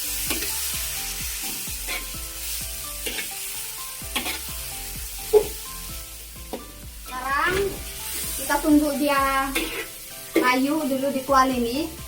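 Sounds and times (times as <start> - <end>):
food sizzling in hot oil: 0.0 - 12.0
spatula scraping a wok: 0.1 - 5.9, 6.5 - 10.9.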